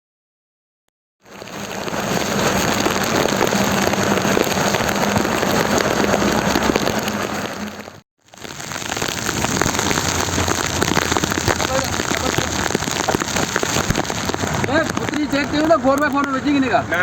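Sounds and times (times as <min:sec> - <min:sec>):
heavy rain on a surface: 0:01.2 - 0:17.0.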